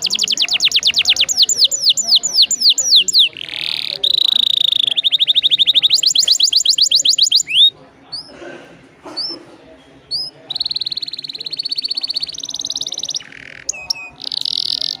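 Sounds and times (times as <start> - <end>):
canary singing: 0.0 - 8.4, 9.0 - 15.0.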